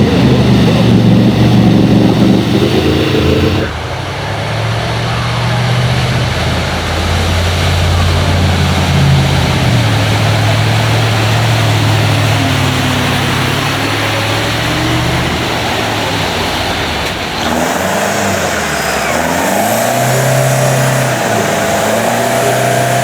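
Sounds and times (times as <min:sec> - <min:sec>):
car engine running at low revs: 0:00.0 - 0:23.0.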